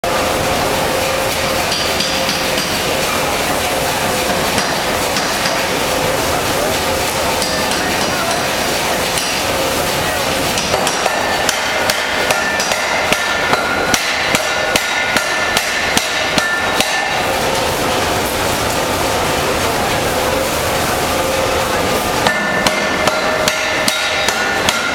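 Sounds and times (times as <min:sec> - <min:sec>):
steady background noise: 0:00.0 - 0:24.9.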